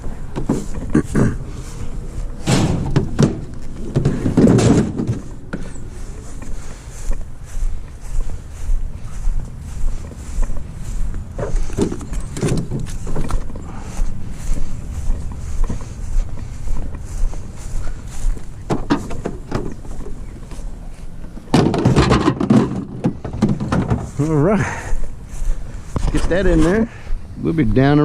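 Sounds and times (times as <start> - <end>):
steady low rumble: 0.0 - 21.5, 24.0 - 28.0.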